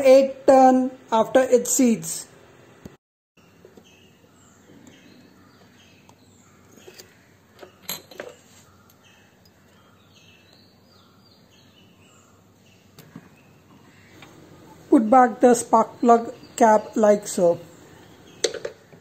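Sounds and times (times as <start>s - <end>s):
faint birds chirping: 3.4s - 19.0s.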